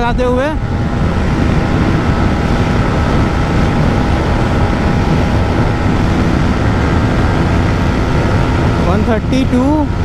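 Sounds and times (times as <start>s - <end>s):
motorcycle engine at high revs: 0.0s - 10.0s
wind rush on microphone: 0.0s - 10.0s.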